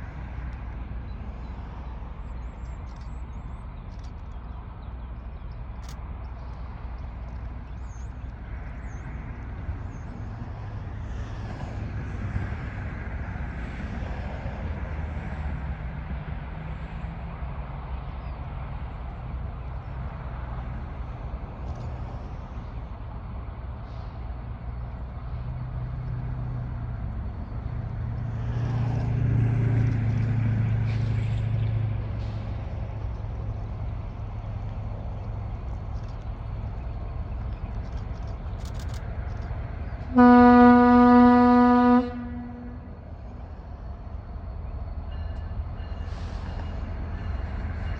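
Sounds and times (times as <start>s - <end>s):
vehicle engine rumble: 0.0s - 47.9s.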